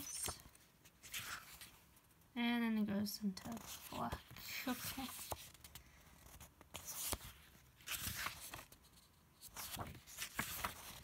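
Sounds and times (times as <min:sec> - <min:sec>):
stiff book pages turning: 0:00.0 - 0:01.8, 0:03.4 - 0:11.0.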